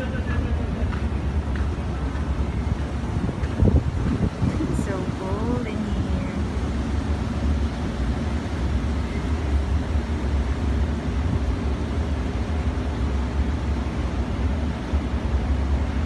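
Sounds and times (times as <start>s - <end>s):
low rumble of city noise: 0.0s - 16.0s.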